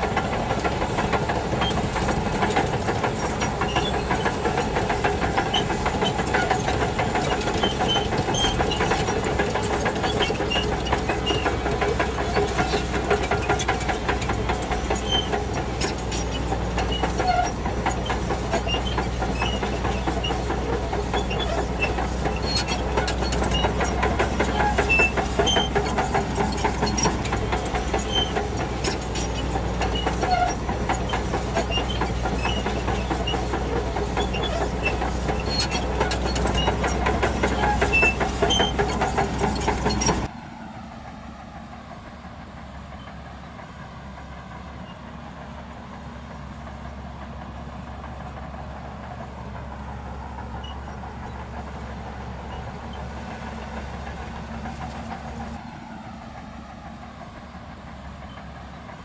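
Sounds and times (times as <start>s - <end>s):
steel tracks clattering: 0.0s - 40.3s, 41.8s - 59.0s
bulldozer diesel engine: 0.0s - 59.0s.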